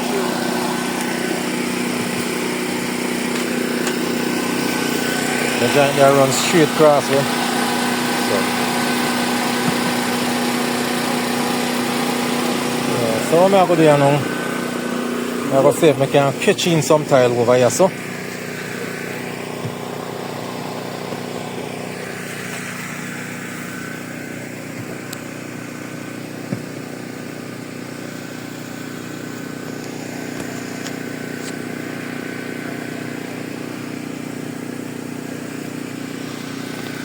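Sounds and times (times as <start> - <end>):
portable generator running: 0.0 - 37.0.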